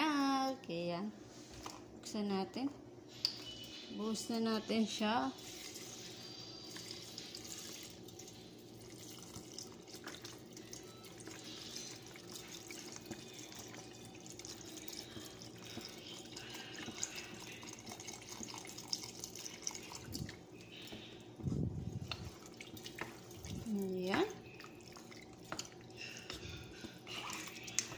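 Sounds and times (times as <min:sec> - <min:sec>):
milk pouring into pot: 0:05.4 - 0:27.9.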